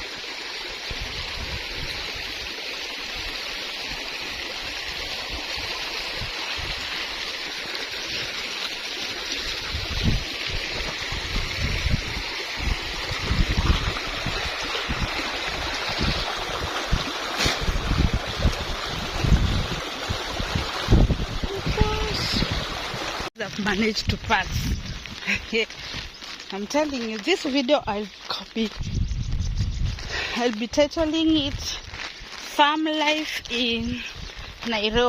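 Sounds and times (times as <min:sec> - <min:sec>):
river running over stones: 0:00.0 - 0:28.9, 0:29.8 - 0:35.0.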